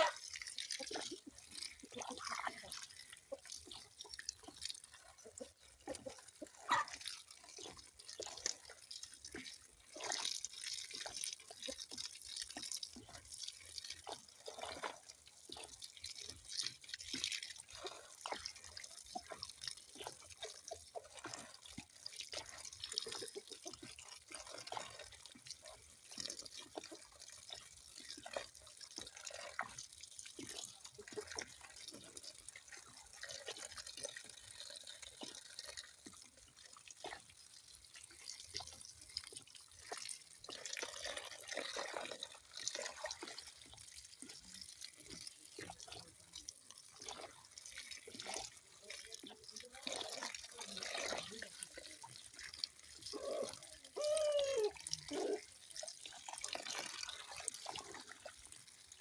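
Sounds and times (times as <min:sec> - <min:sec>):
water dripping and trickling: 0:00.0 - 0:59.0.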